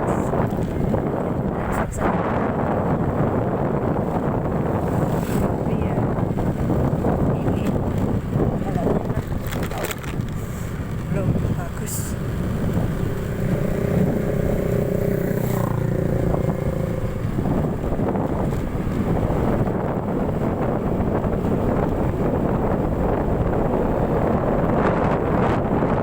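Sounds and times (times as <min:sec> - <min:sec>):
motorcycle engine: 0:00.0 - 0:26.0
road rumble: 0:00.0 - 0:26.0
wind buffeting microphone: 0:00.0 - 0:26.0.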